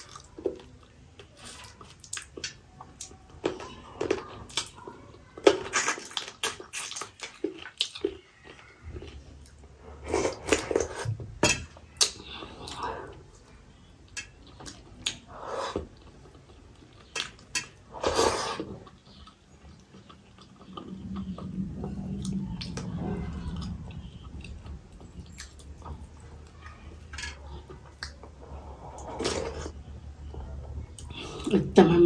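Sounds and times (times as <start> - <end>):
chewing: 0.0 - 11.2, 11.8 - 31.6.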